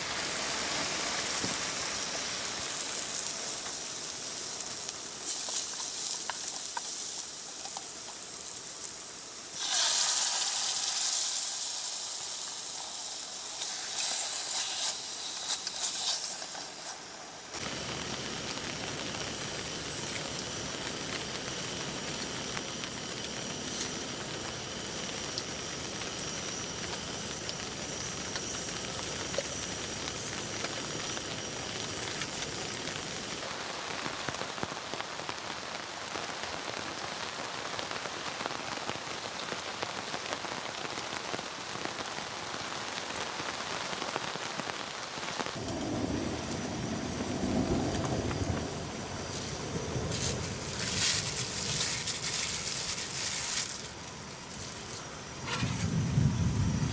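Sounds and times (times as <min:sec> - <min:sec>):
food sizzling in a hot pan: 0:00.0 - 0:45.7, 0:48.4 - 0:55.5
steady rain falling: 0:00.0 - 0:56.9.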